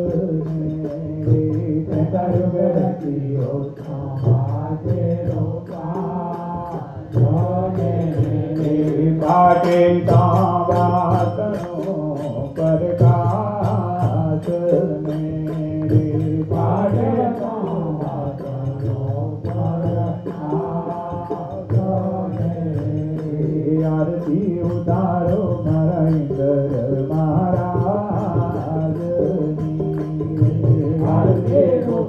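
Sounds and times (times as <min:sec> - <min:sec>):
person singing a hymn: 0:00.0 - 0:32.0
sharp percussion strikes: 0:00.0 - 0:32.0.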